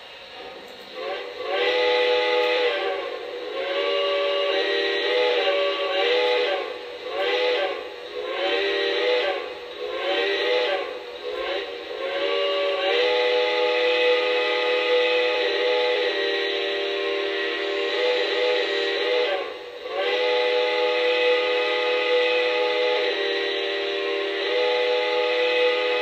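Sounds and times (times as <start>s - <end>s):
steam locomotive whistle: 0.0s - 26.0s.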